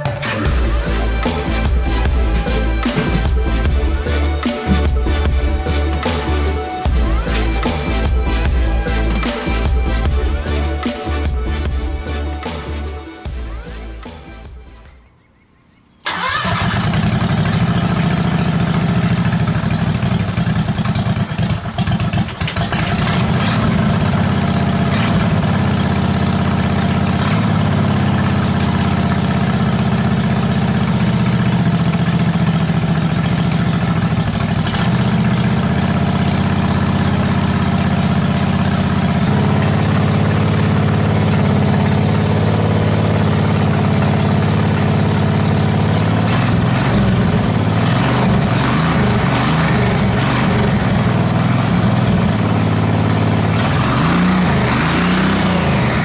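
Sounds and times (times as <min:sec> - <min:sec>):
go-kart engine starting and idling: 0:00.0 - 0:14.0, 0:16.0 - 0:56.0.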